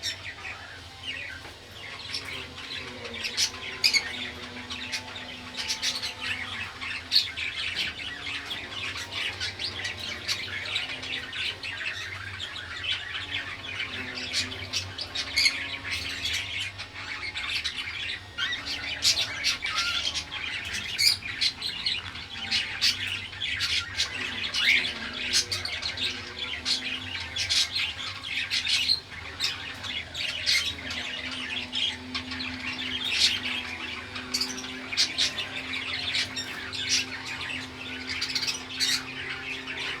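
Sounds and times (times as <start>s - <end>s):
birds chirping and squawking: 0.0s - 40.0s.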